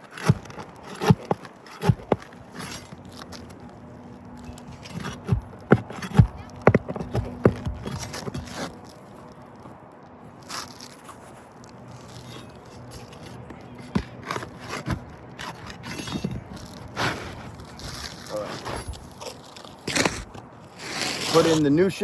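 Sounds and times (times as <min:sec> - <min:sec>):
roof shingles scraping: 0:00.0 - 0:22.0.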